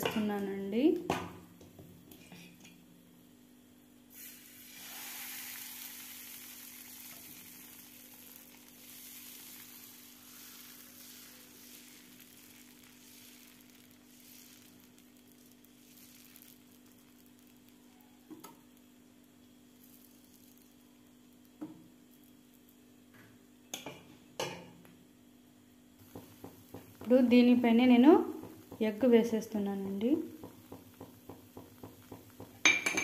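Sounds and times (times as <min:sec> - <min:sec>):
batter sizzling on hot pan: 0:04.0 - 0:23.9, 0:25.8 - 0:33.0.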